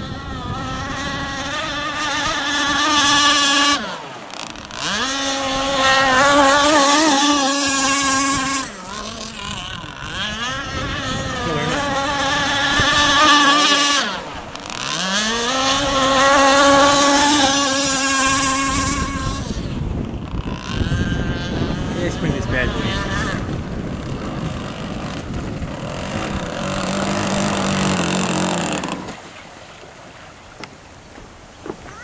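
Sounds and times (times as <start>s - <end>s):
high-revving two-stroke model boat engine: 0.0s - 32.0s.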